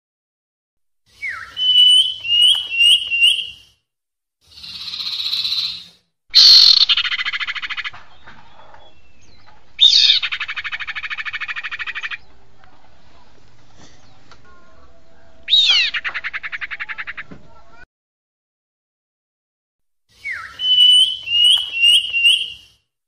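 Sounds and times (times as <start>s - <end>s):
recorded bird calls: 1.1s - 3.6s, 4.5s - 17.8s, 20.2s - 22.8s.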